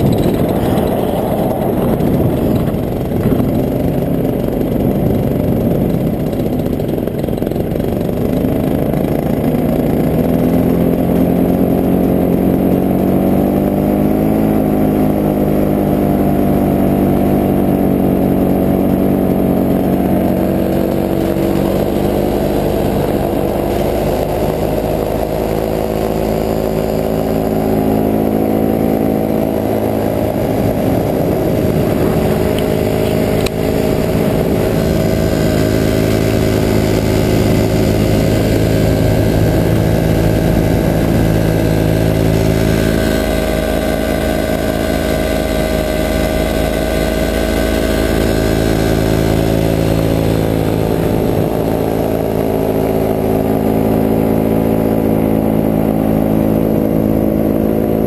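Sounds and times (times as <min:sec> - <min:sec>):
paramotor engine and propeller: 0:00.0 - 0:58.0.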